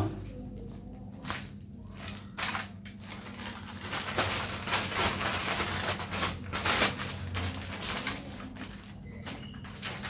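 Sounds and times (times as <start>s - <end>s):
plastic bag crinkling: 0.4s - 10.0s.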